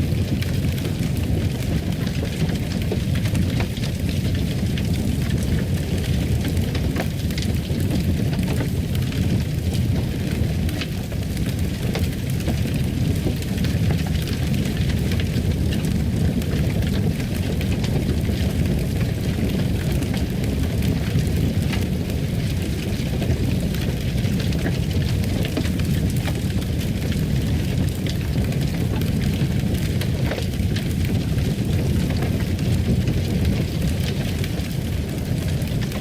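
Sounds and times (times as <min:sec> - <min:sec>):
fire crackling and popping: 0:00.0 - 0:36.0
low rumble of flames: 0:00.0 - 0:36.0.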